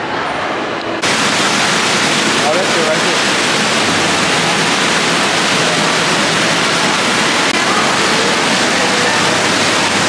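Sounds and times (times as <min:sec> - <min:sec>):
fountain water splashing into pool: 0:01.0 - 0:10.0.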